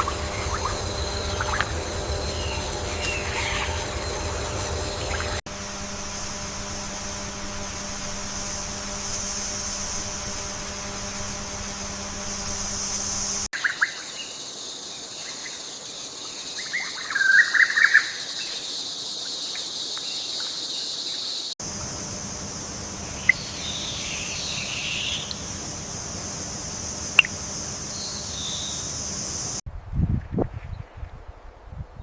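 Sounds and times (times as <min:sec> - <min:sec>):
high insect drone: 0:00.0 - 0:29.6.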